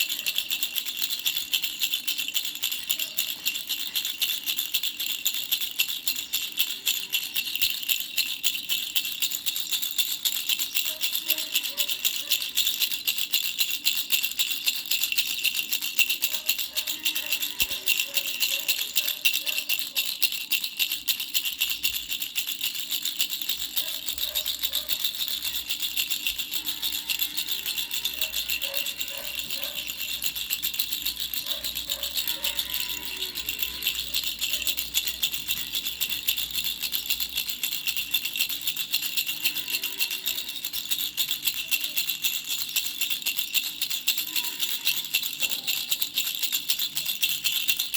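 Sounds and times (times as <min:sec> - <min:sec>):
baby rattle shaking: 0:00.0 - 0:47.9.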